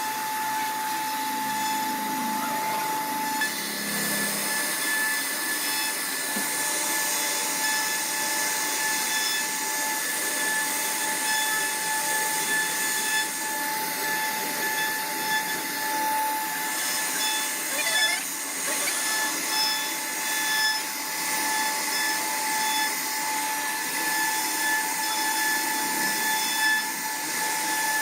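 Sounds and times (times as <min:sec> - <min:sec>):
router spindle cutting wood: 0:00.0 - 0:28.0.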